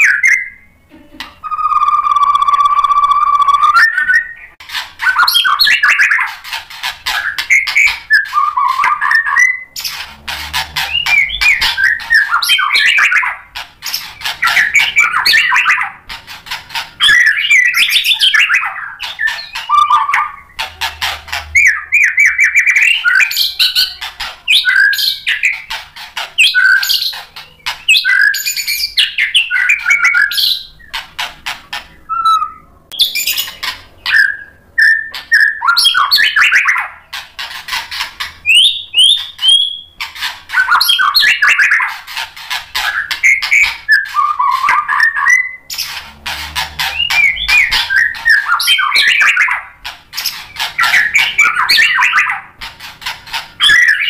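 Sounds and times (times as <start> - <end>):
songbird whistling and trilling: 0.0 - 0.8, 1.4 - 25.8, 26.4 - 31.0, 32.0 - 46.0, 46.8 - 54.0.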